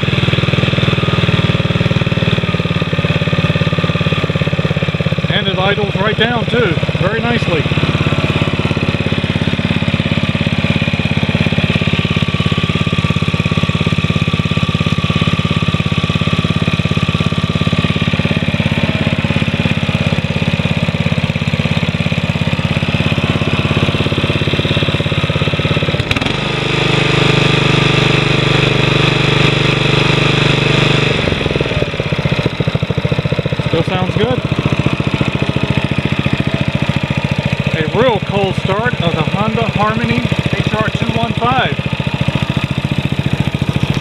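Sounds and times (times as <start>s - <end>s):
lawn mower engine idling: 0.0s - 44.0s.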